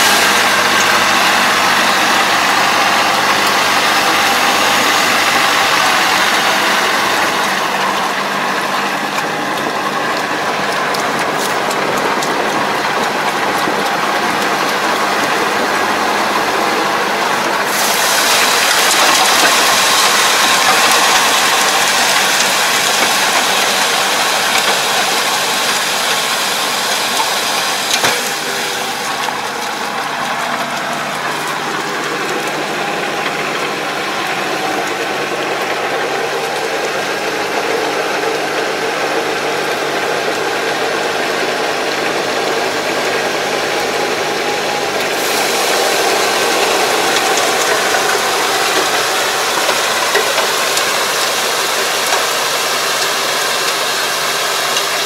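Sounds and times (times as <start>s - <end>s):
diesel tractor engine running: 0.0s - 55.0s
steady noisy hiss: 0.0s - 55.0s.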